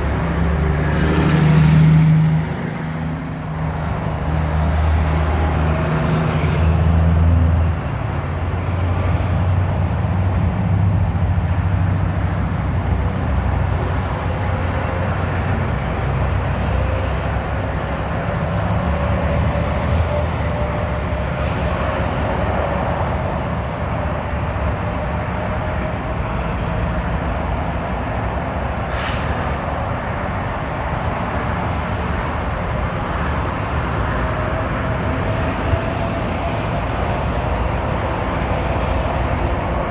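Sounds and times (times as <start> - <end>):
heavy truck traffic: 0.0 - 39.9.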